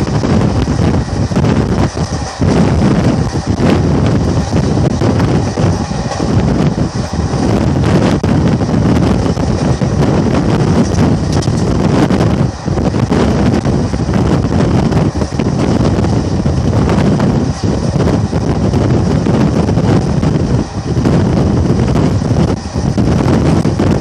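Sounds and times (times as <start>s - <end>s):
train wheels rumbling on track: 0.0s - 24.0s
wind rushing over microphone: 0.0s - 24.0s.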